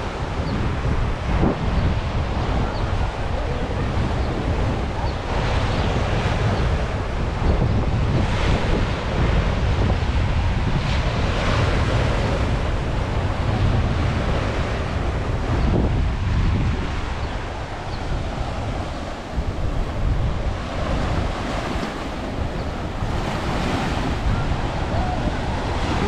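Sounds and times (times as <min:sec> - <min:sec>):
sea waves washing onto shore: 0:00.0 - 0:26.0
wind buffeting microphone: 0:00.0 - 0:26.0.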